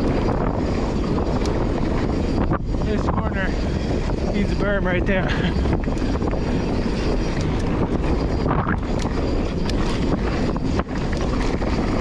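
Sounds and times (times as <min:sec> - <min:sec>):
bike rattling and clacking: 0:00.0 - 0:12.0
wind buffeting microphone: 0:00.0 - 0:12.0.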